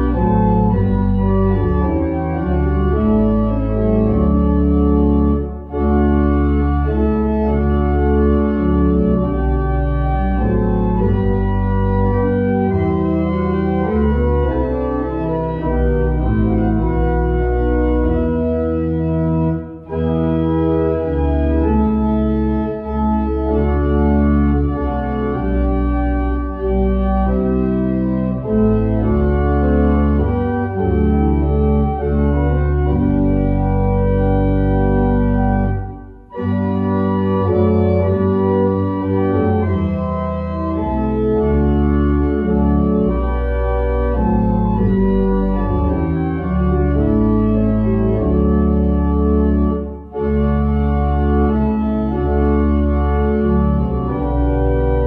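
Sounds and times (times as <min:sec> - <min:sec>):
pipe organ playing slow chords: 0:00.0 - 0:55.0.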